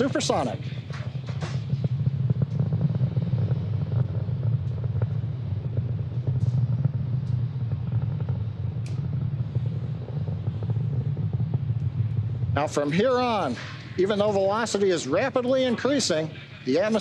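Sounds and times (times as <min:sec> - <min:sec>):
faint crackling: 0:00.0 - 0:17.0
rocket engines low rumble: 0:00.0 - 0:17.0.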